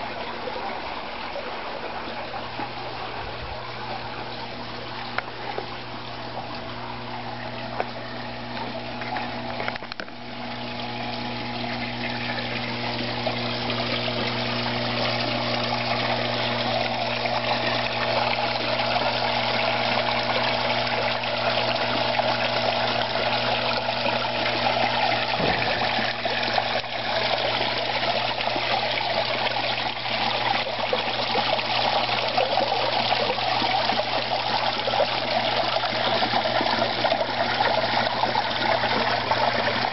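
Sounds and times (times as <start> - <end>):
water trickling in a pond: 0.0 - 39.9.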